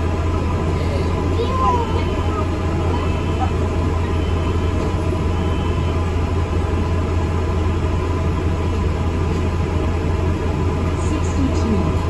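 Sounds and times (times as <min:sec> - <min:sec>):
bus engine drone: 0:00.0 - 0:12.0
road and cabin noise: 0:00.0 - 0:12.0.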